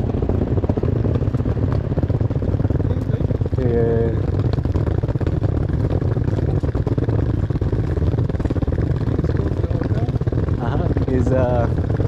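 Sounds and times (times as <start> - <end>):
low outdoor rumble with flutter: 0.0 - 12.0.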